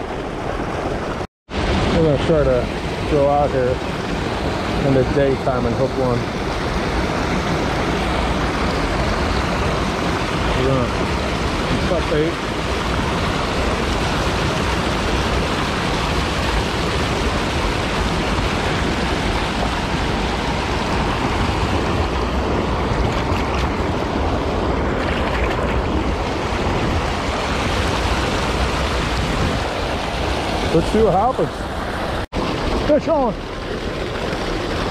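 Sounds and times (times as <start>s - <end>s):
river water rushing over dam: 0.0s - 34.9s.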